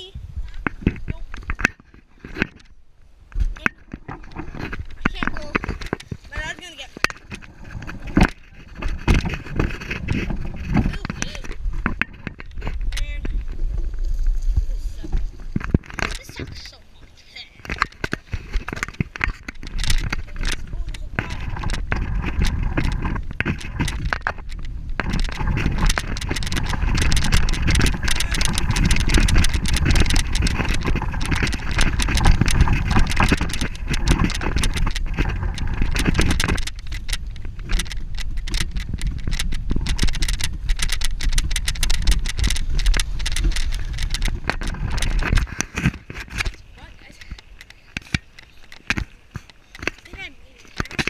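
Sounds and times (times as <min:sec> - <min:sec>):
wind rumble on microphone: 0:00.0 - 0:51.0
bicycle rattles and knocks: 0:00.4 - 0:16.8, 0:17.6 - 0:51.0.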